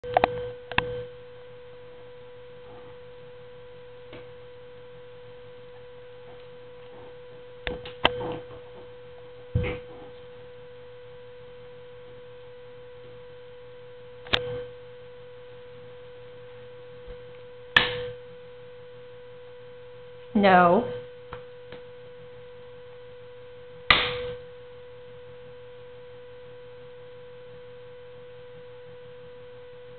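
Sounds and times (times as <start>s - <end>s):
high-pitched electrical hum: 0.0s - 29.9s.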